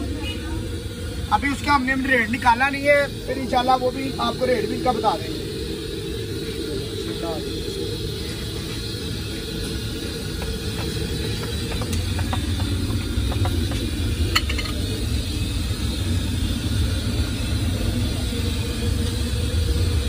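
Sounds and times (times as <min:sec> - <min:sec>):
even hiss: 0:00.0 - 0:20.0
street background rumble: 0:00.0 - 0:20.0.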